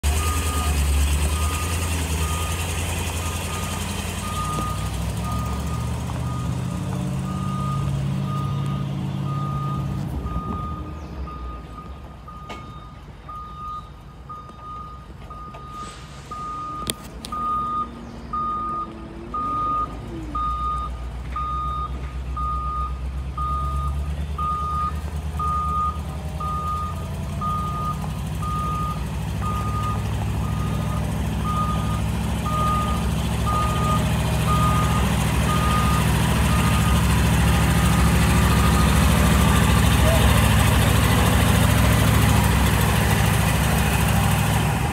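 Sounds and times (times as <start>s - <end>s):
truck reverse alarm beeping: 0.0s - 44.6s
truck engine: 0.0s - 44.9s.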